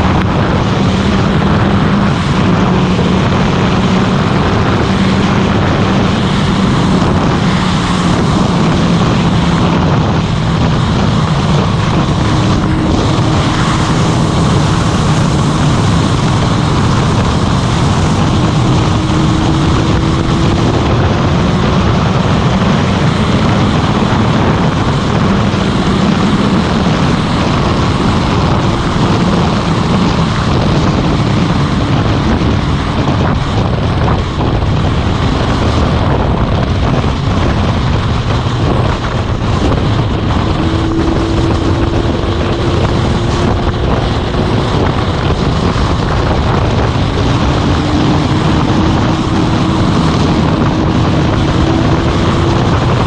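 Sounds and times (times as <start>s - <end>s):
motorcycle engine cruising: 0.0s - 53.0s
wind rush on microphone: 0.0s - 53.0s.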